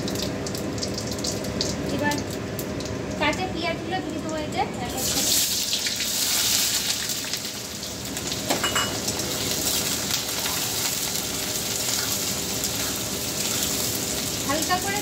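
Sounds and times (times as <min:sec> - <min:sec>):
frying hiss: 0:00.0 - 0:15.0
onions sizzling in hot oil: 0:00.0 - 0:15.0.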